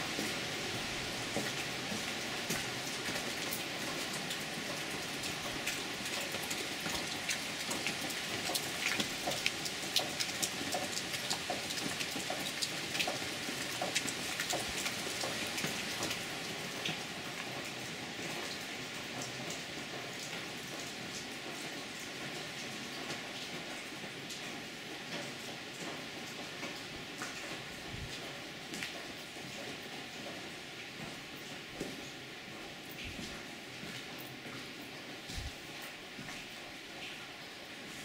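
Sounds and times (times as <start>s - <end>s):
water dripping and pattering: 0.1s - 38.0s.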